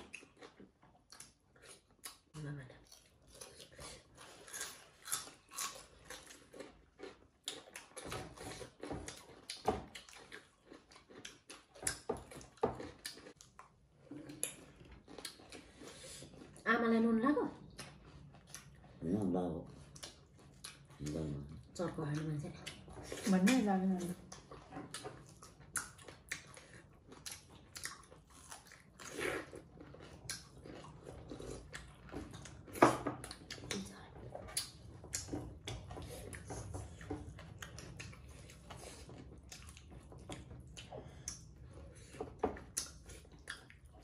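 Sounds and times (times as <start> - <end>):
people chewing and biting food: 0.0 - 16.7, 17.6 - 44.0.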